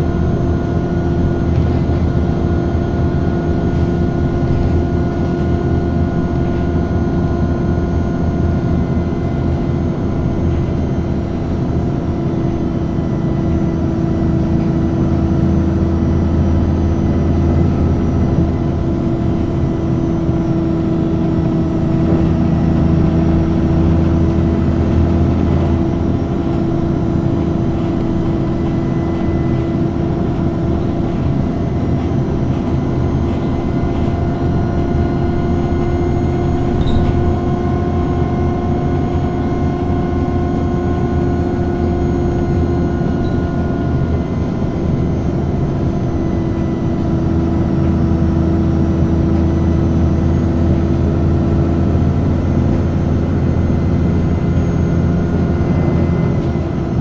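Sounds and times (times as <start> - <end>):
diesel bus engine running: 0.0 - 57.0.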